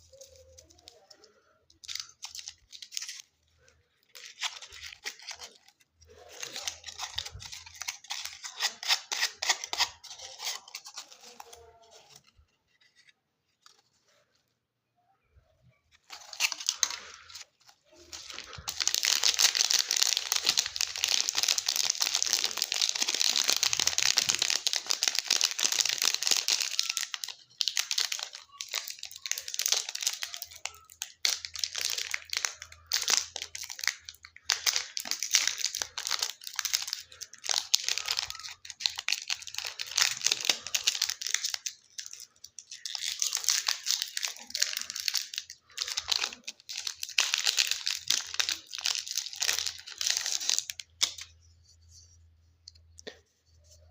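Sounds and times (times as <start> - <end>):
wrappers crinkling: 0.0 - 14.2, 15.9 - 51.3.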